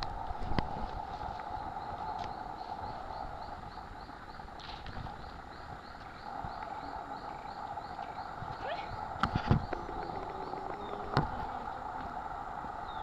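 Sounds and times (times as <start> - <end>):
high insect chirp: 0.0 - 13.0
insects buzzing drone: 0.0 - 13.0.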